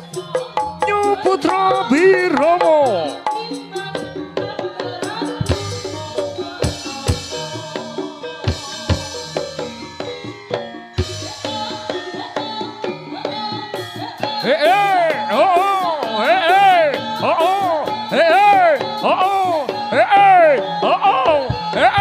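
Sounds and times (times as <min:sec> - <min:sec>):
pitched percussion: 0:00.0 - 0:22.0.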